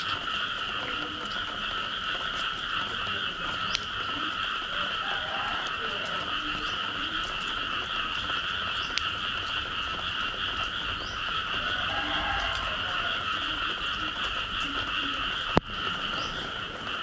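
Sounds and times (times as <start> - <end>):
frogs croaking: 0.0 - 17.0
frogs trilling: 0.0 - 17.0.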